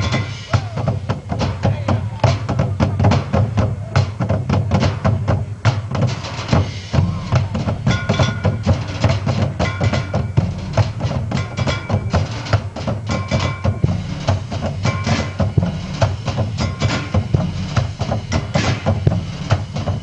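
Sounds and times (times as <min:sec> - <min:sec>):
short pitched percussion notes: 0:00.0 - 0:04.1, 0:06.0 - 0:20.0
rapid drum strokes: 0:00.0 - 0:20.0.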